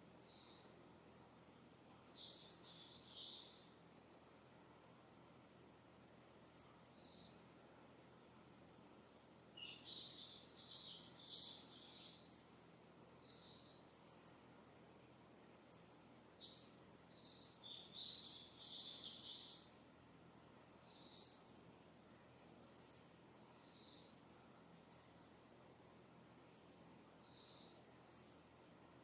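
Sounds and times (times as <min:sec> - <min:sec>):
songbirds chirping and trilling: 0:00.0 - 0:29.0.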